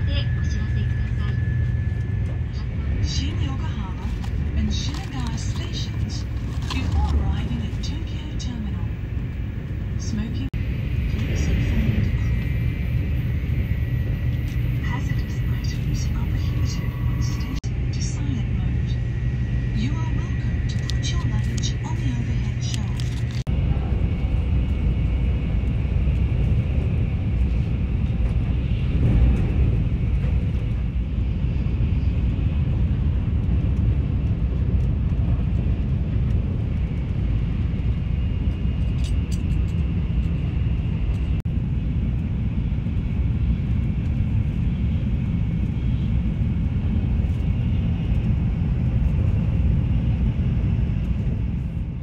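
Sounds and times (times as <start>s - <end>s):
train rumble and hiss from inside: 0.0s - 52.0s.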